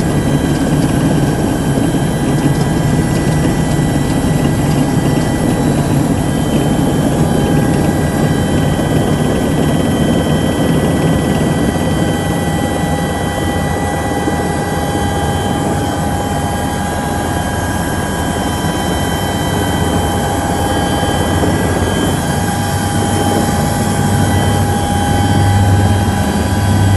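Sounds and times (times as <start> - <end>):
helicopter engine and rotors: 0.0 - 26.9
high-pitched whine: 0.0 - 26.9.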